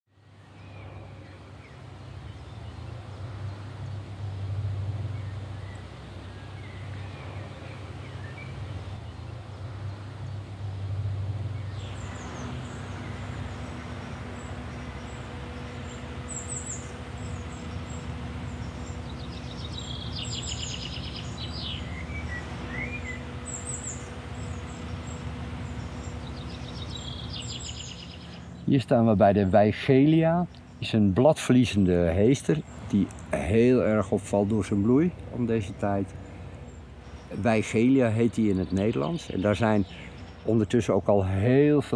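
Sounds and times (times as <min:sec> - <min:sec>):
steady low hum: 0:00.1 - 0:41.9
small birds chirping: 0:00.2 - 0:41.9.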